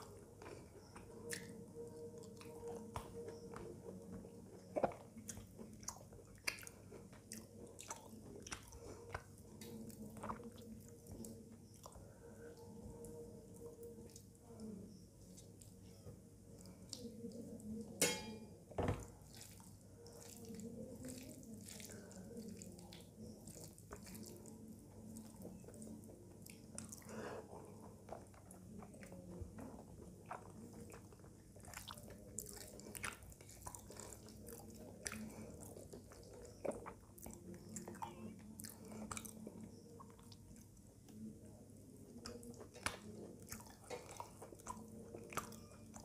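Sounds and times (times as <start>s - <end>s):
wet chewing mouth sounds: 0.0s - 17.9s, 19.2s - 46.0s.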